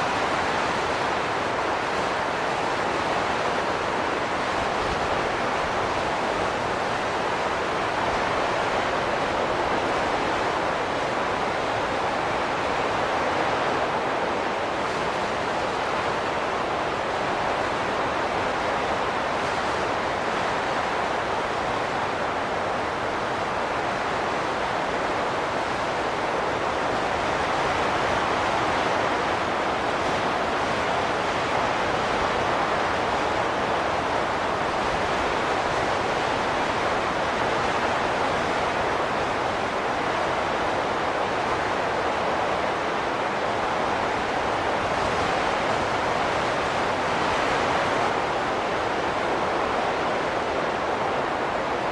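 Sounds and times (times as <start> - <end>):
wind rushing in gusts: 0.0 - 51.9.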